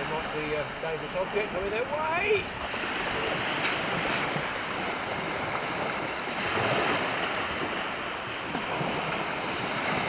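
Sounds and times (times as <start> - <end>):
waves washing onto shingle: 0.0 - 10.0
wind on microphone: 1.9 - 10.0.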